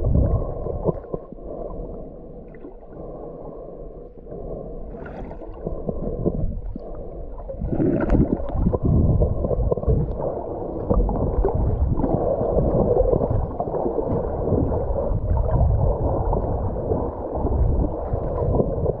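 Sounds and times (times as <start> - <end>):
water sloshing and bubbling: 0.0 - 19.0.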